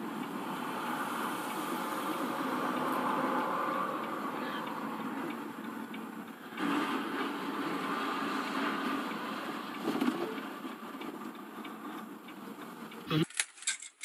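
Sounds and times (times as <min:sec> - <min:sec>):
engine and road noise in cab: 0:00.0 - 0:14.0.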